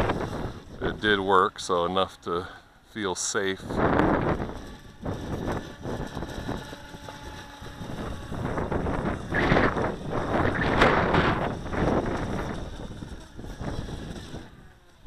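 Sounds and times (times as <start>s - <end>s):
wind rumble on microphone: 0.0s - 1.6s, 3.5s - 15.0s
electric boat motor running: 0.0s - 15.0s.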